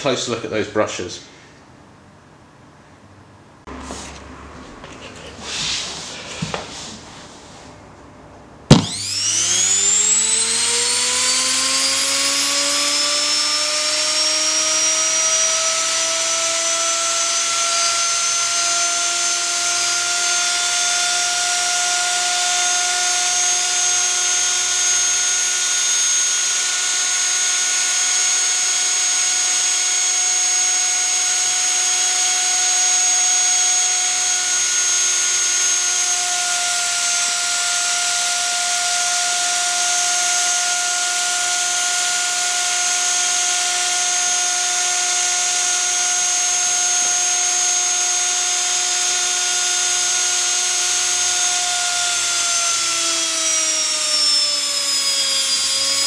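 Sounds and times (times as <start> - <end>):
electric motor whining: 8.7 - 56.0.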